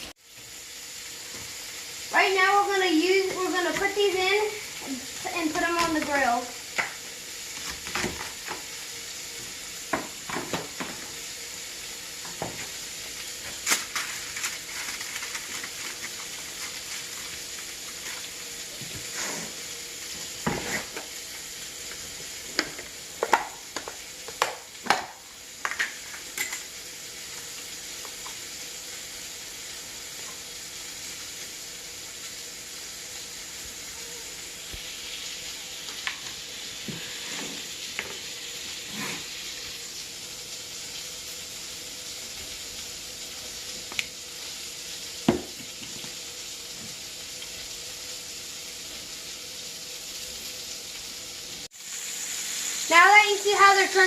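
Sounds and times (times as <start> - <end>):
food sizzling on a grill: 0.0 - 54.0.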